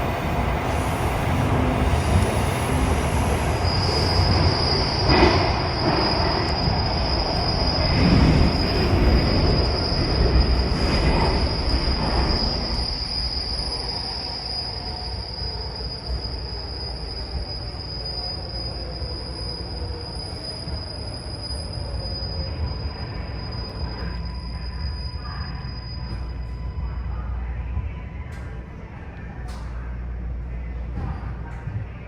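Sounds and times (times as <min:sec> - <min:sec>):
rumble of train wheels on rail: 0:00.0 - 0:32.0.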